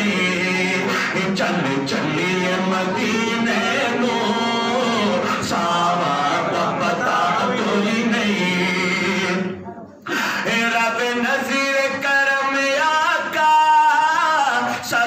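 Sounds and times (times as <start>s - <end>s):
man singing devotional song: 0.0s - 9.5s, 10.1s - 15.0s.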